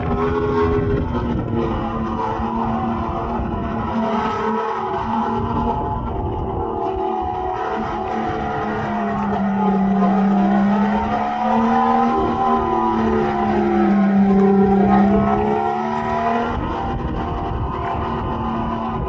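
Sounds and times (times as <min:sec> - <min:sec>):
synthetic electric kart engine drone: 0:00.0 - 0:19.0.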